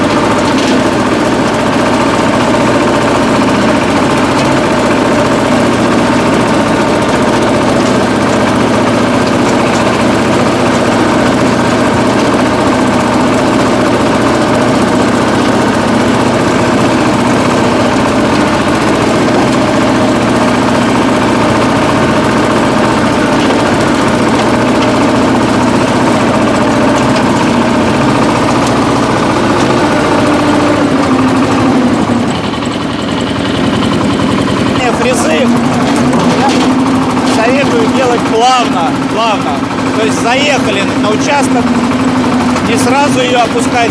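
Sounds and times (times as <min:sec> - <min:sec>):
tractor engine under load: 0:00.0 - 0:43.9.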